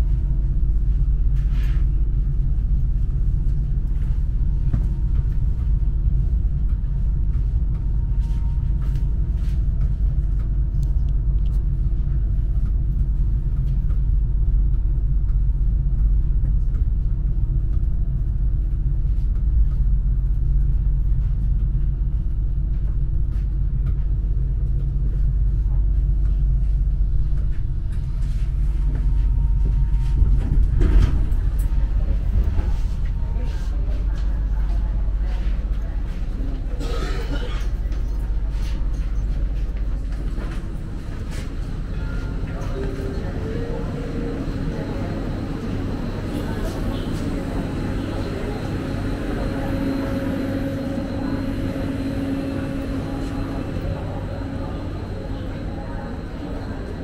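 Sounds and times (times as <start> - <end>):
faint hum: 0.0 - 57.0
passenger train rumbling: 0.0 - 57.0.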